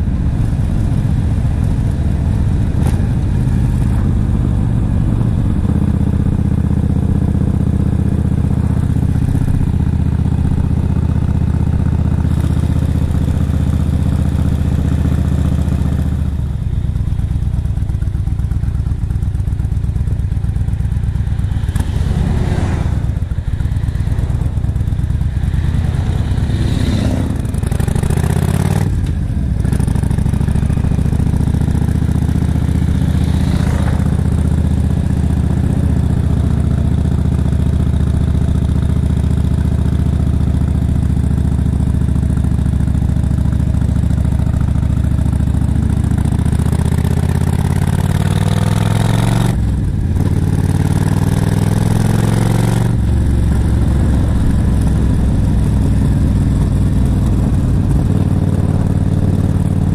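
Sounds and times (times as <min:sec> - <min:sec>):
oncoming vehicles passing: 0:00.0 - 0:40.1, 0:47.2 - 0:59.9
motorcycle engine cruising: 0:00.0 - 0:59.9.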